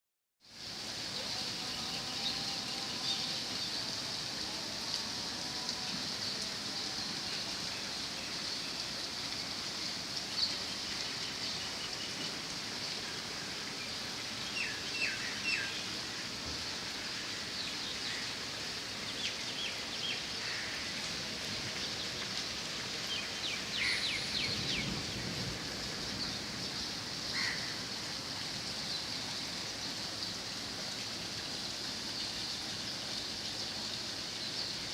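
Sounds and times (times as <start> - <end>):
rain hiss: 0.4 - 34.9.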